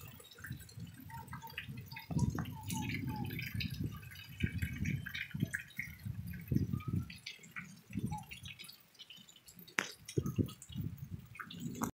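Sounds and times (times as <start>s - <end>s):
rain dripping and pattering: 0.0s - 11.9s.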